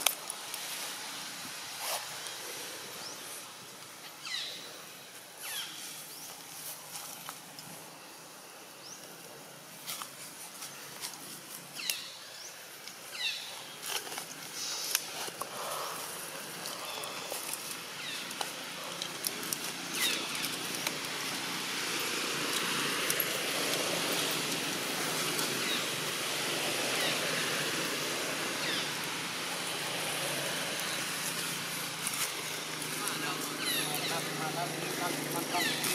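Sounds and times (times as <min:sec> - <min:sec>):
passing road traffic: 0:00.0 - 0:35.9.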